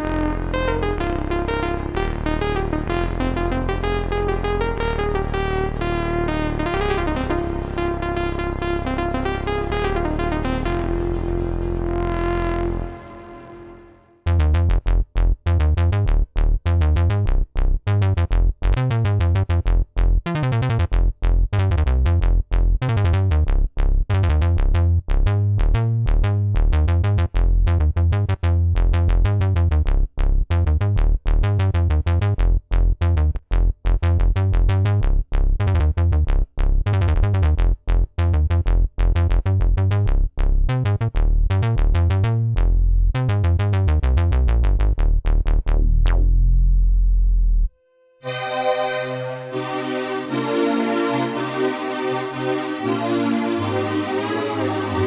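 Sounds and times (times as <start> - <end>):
synthesizer bass notes: 0.0 - 35.0, 35.6 - 55.0.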